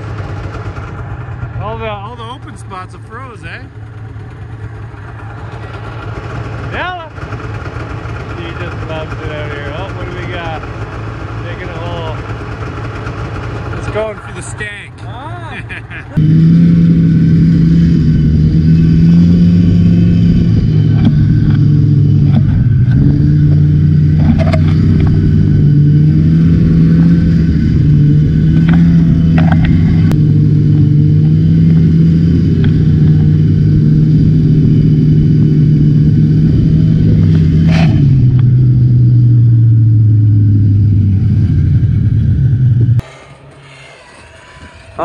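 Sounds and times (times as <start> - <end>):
snowmobile engine running: 0.0 - 45.0.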